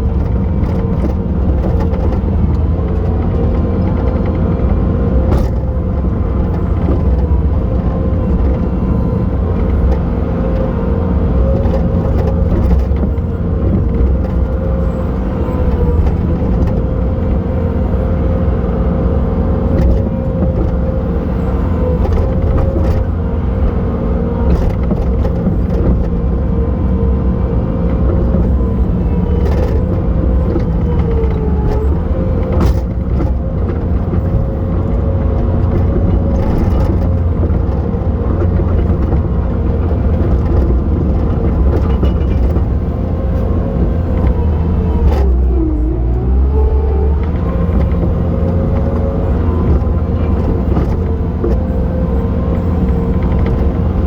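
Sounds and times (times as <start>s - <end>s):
diesel engine with whine: 0.0s - 54.0s.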